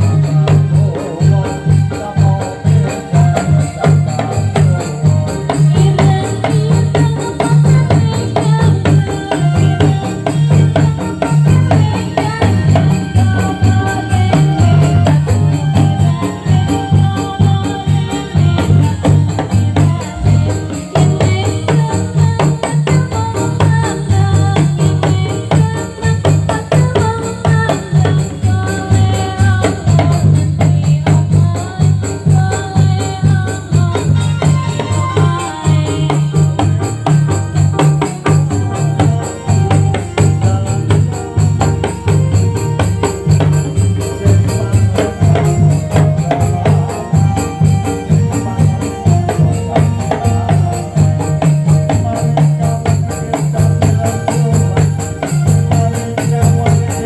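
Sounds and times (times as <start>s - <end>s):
heavy drum beat: 0.0s - 57.0s
tambourine jingling: 0.0s - 57.0s.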